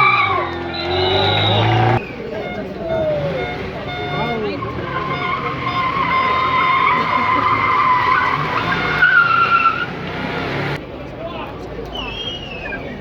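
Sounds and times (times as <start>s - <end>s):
car engine running: 0.0s - 10.8s
car tyres squealing: 0.0s - 10.8s, 11.9s - 13.0s.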